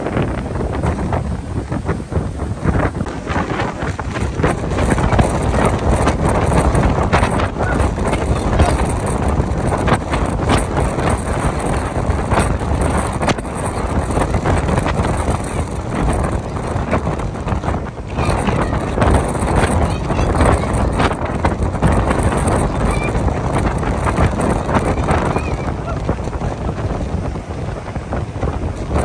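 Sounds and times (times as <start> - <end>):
strong wind on microphone: 0.0 - 29.0
surf breaking on seawall: 0.0 - 29.0.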